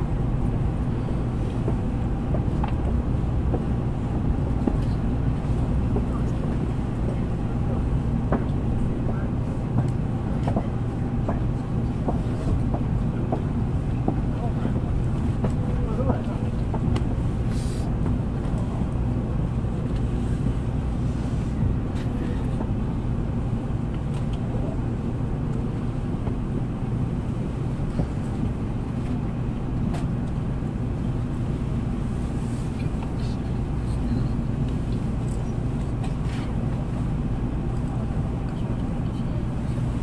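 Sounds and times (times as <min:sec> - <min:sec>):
train cabin rumble and hum: 0:00.0 - 0:40.0.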